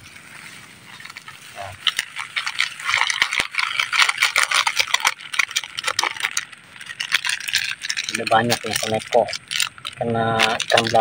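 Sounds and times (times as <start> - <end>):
plastic bag and foil crinkling: 0.0 - 11.0.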